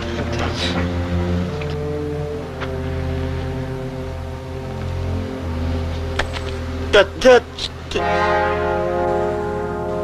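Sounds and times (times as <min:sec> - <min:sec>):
orchestral sustained chords: 0:00.0 - 0:10.0.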